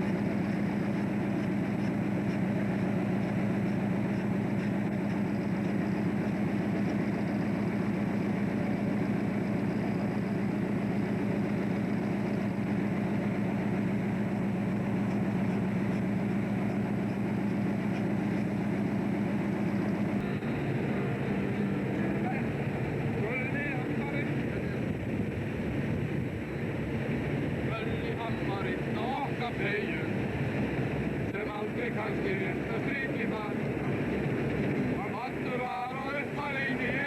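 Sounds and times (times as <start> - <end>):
boat diesel engine running: 0.0 - 37.0.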